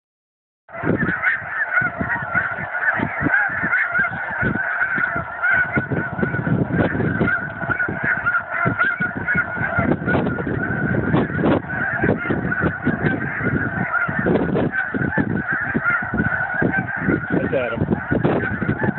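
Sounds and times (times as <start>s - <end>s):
geese honking: 0.7s - 18.9s.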